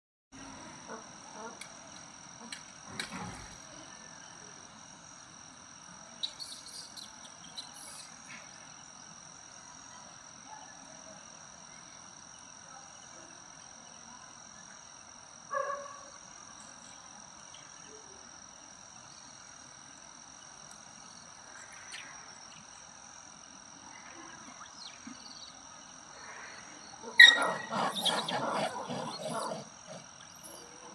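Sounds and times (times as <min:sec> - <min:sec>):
high-pitched insect drone: 0:03.3 - 0:30.9.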